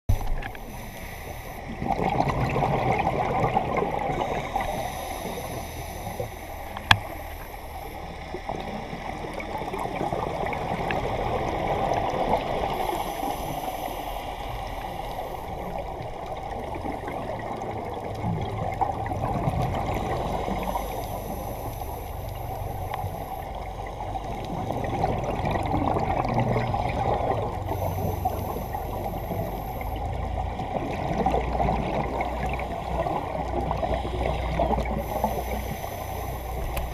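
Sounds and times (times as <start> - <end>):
underwater exhaled bubbles gurgling: 0.1 - 36.9.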